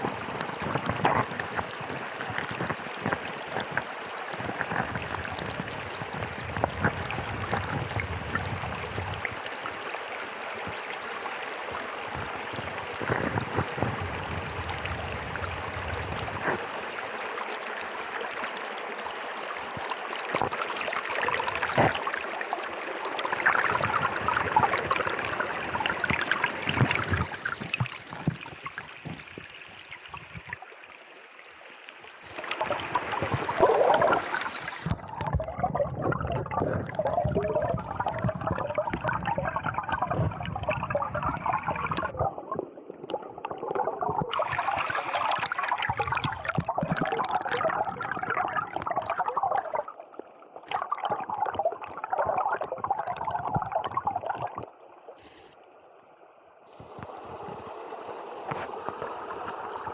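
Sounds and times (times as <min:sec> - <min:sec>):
river water flowing and gurgling: 0:00.0 - 0:59.9.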